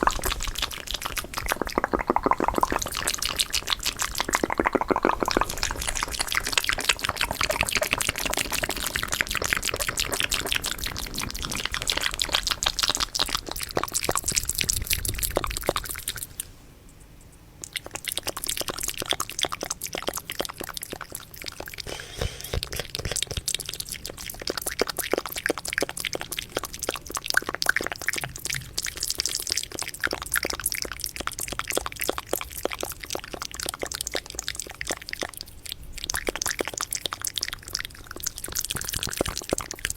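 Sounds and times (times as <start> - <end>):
wet mouth clicks and smacks: 0.0 - 16.4, 17.6 - 39.9.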